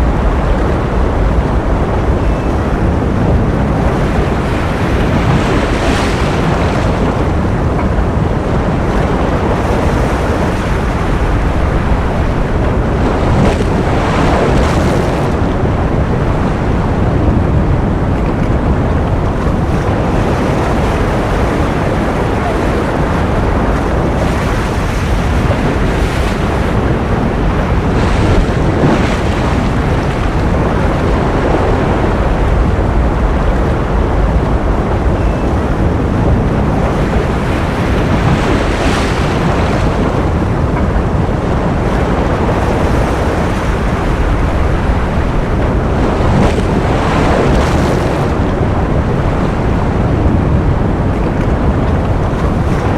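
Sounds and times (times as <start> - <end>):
ocean surf: 0.0 - 52.9.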